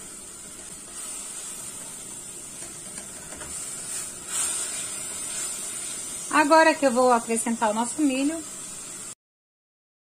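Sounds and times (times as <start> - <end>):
vegetables sizzling in a pot: 0.0 - 9.2.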